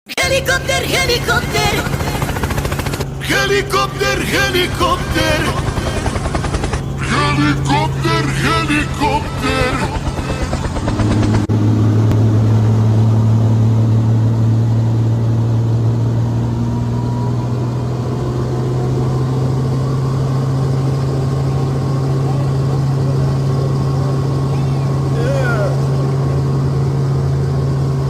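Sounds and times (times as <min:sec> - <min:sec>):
engine humming: 0:00.2 - 0:28.0.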